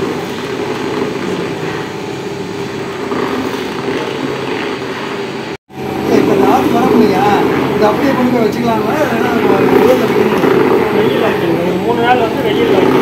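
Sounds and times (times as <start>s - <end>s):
oil mill mechanical drone: 0.0s - 13.0s.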